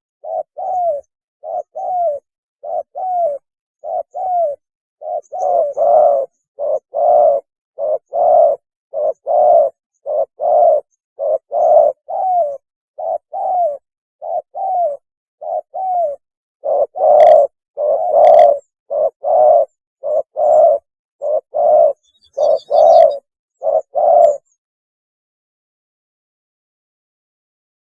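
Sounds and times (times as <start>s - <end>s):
dove cooing: 0.2s - 24.6s.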